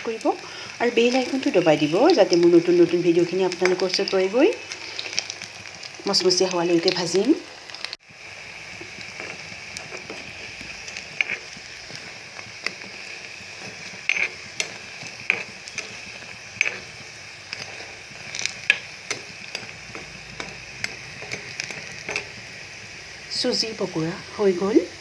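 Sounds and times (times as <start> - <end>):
oil popping and crackling: 0.0 - 23.2
food deep-frying in oil: 0.0 - 25.0.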